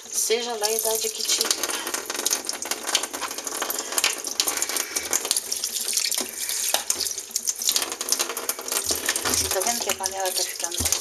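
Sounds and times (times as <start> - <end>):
tap water running: 0.0 - 11.0.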